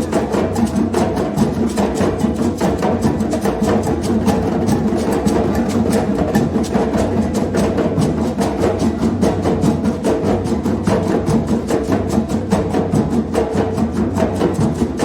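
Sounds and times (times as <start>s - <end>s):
percussion group drumming: 0.0s - 15.0s.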